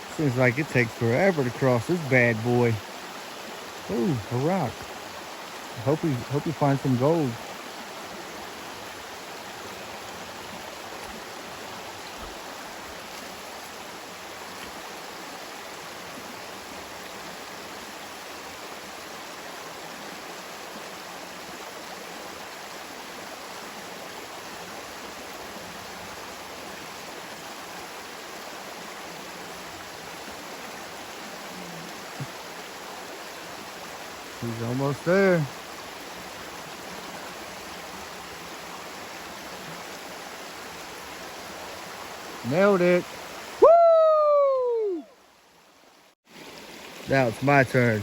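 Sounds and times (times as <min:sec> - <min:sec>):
river running over rocks: 0:00.0 - 0:48.0.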